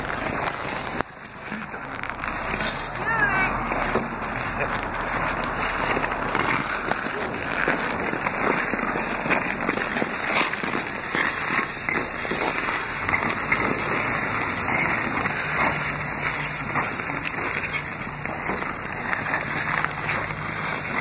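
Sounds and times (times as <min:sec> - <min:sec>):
ice skate blades scraping ice: 0:00.0 - 0:21.0.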